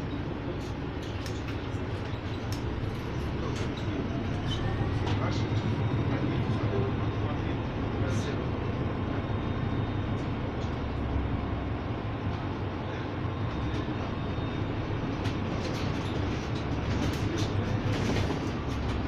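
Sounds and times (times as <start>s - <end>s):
bus interior low rumble: 0.0s - 19.0s.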